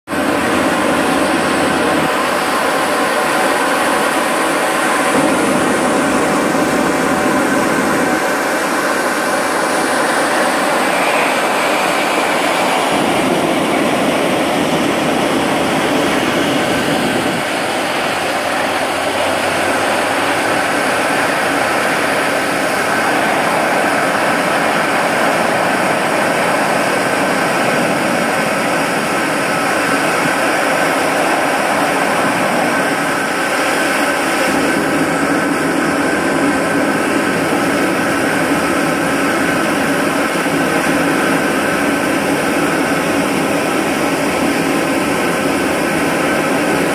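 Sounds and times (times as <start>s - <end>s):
jet engine roaring: 0.0s - 46.9s.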